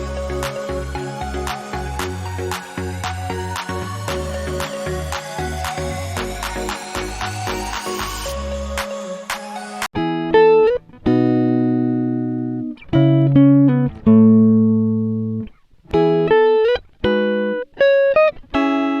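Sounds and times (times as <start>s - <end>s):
plucked string melody: 0.0s - 8.8s, 10.0s - 19.0s.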